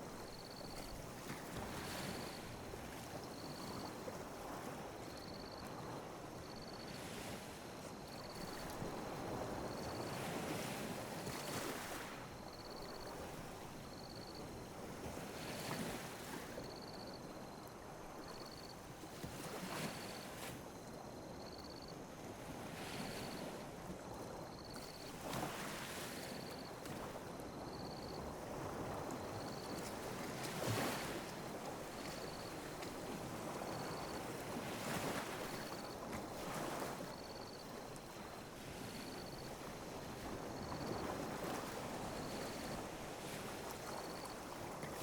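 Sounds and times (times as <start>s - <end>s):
small waves lapping on beach: 0.0s - 45.0s.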